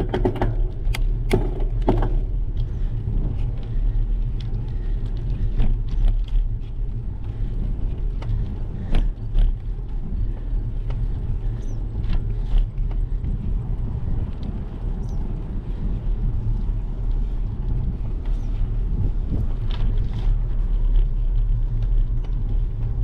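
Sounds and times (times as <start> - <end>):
bike clicks and rattles: 0.0 - 23.0
tyre noise on asphalt: 0.0 - 23.0
wind buffeting microphone: 0.0 - 23.0.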